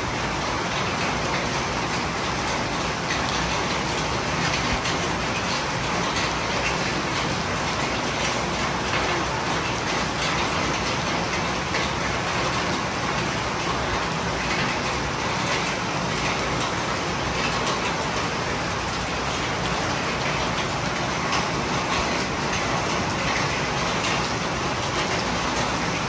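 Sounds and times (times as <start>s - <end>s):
steady rainfall: 0.0s - 26.0s.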